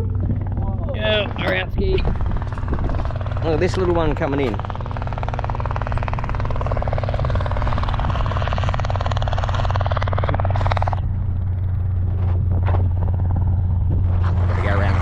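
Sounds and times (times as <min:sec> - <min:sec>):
helicopter rotor chopping: 0:00.0 - 0:15.0
low engine hum: 0:00.0 - 0:15.0.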